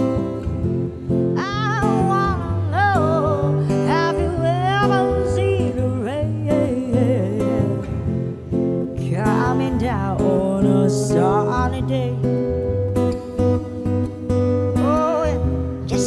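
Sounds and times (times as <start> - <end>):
acoustic guitar: 0.0 - 16.0
woman singing into microphone: 0.0 - 16.0.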